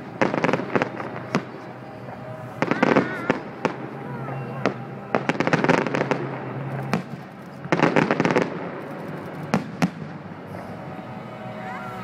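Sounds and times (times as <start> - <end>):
fireworks bangs: 0.0 - 11.9.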